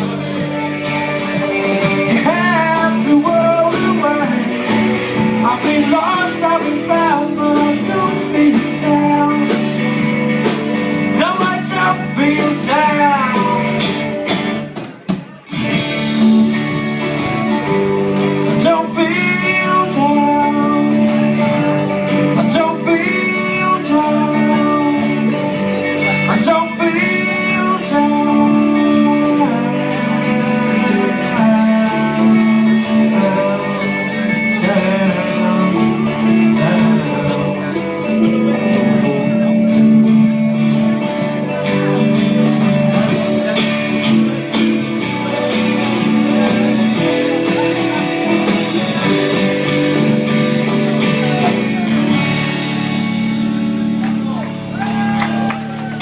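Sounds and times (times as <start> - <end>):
electric guitars: 0.0 - 56.0
live rock band playing: 0.0 - 56.0.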